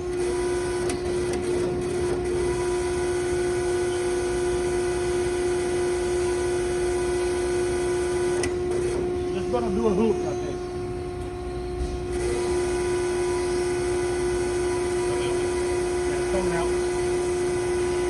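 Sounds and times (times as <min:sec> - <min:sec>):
machine whine over a hum: 0:00.0 - 0:18.0.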